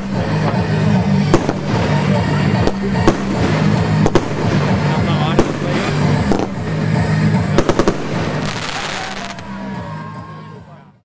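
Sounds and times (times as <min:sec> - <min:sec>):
firework reports: 0:00.0 - 0:10.0.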